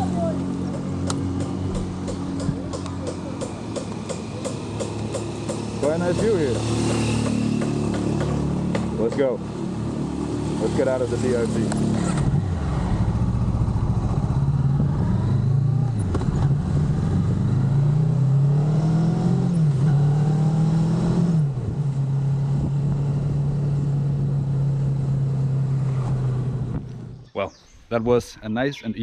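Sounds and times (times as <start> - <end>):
motorcycle engine accelerating: 0.0 - 27.3.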